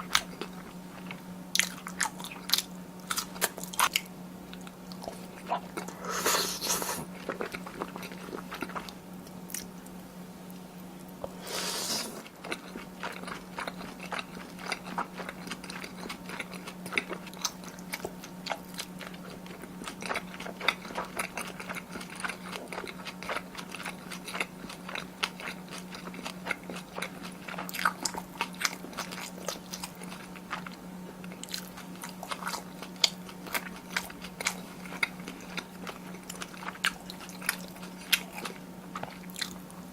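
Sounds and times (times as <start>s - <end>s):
person chewing food: 0.0s - 9.8s, 11.2s - 39.8s
steady low hum: 0.0s - 39.9s.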